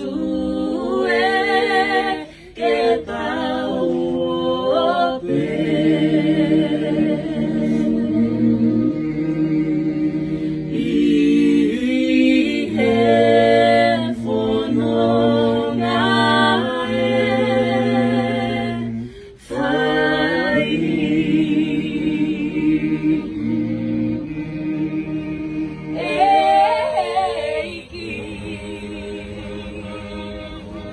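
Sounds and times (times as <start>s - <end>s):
group singing a hymn unaccompanied: 0.0s - 30.9s.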